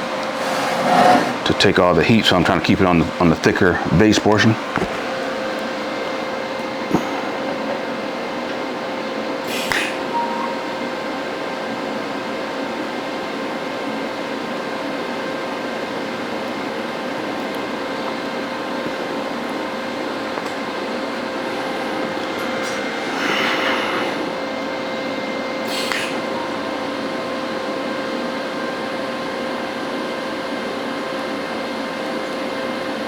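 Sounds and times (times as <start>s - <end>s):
constant hum: 0.0s - 12.1s, 16.5s - 32.6s.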